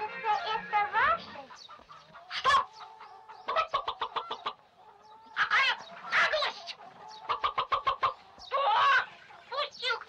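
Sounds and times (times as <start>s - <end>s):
cartoon chickens clucking and squawking: 0.0s - 10.0s.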